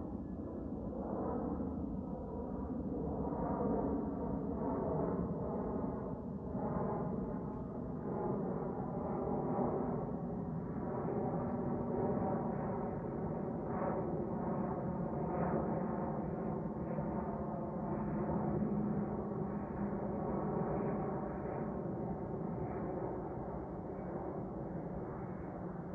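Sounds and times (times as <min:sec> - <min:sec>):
jet aircraft passing overhead: 0:00.1 - 0:25.9.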